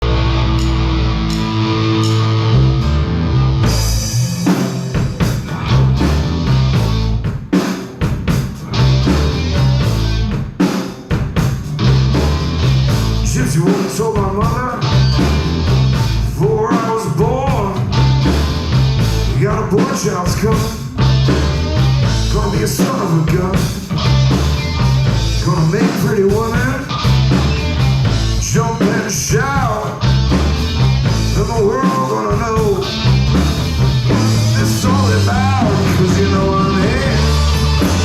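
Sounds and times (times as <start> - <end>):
wavering electric guitar lead: 0.0 - 7.4, 8.3 - 10.6, 11.5 - 38.0
live blues rock band: 0.0 - 38.0.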